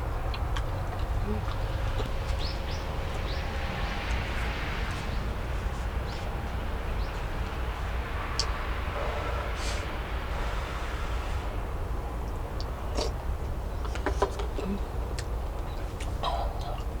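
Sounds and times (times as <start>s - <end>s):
small birds chirping: 0.0s - 11.5s, 12.2s - 17.0s
low rumble: 0.0s - 13.8s.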